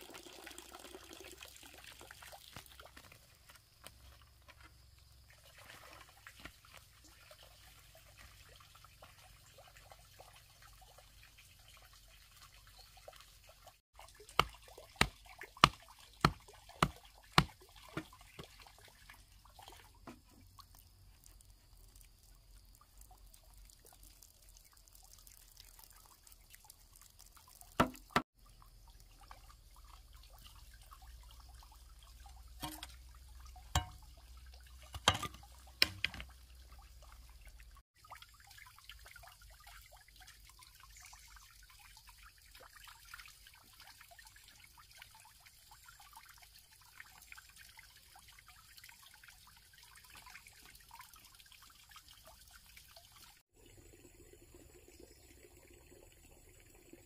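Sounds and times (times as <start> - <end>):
water trickling and dripping: 0.0 - 57.0.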